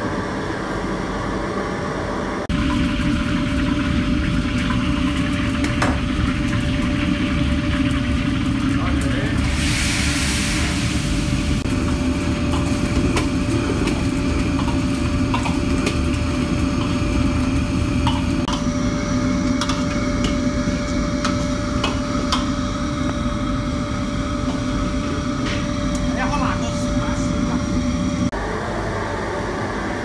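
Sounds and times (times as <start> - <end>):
stove burner and blower roaring: 0.0 - 30.0.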